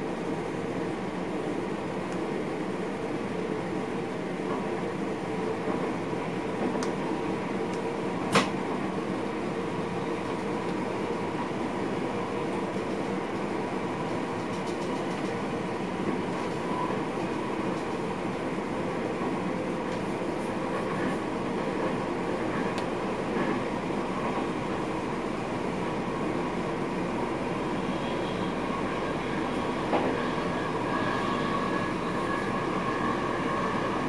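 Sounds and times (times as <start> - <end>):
train running noise: 0.0 - 34.0.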